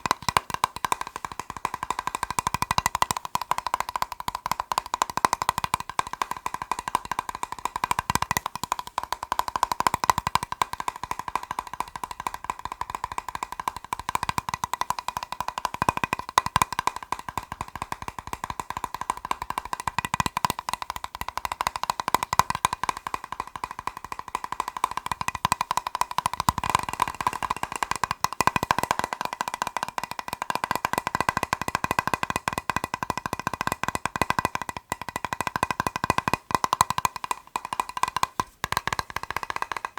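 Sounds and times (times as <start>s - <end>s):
fast tapping on plastic box: 0.0s - 39.9s.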